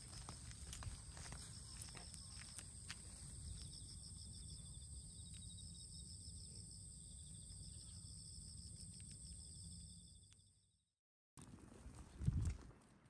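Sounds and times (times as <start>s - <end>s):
insects chirring: 0.0s - 10.7s.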